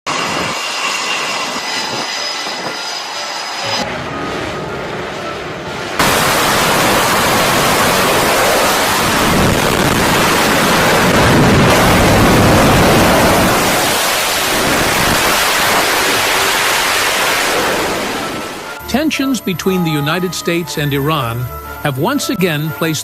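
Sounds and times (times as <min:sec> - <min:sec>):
steady rushing roar: 0:00.1 - 0:18.9.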